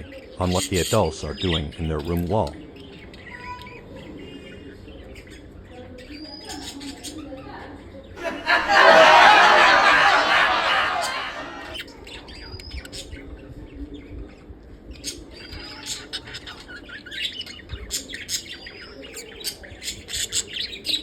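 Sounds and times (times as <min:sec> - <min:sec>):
lovebirds chirping and squawking: 0:00.0 - 0:08.2, 0:11.7 - 0:21.0.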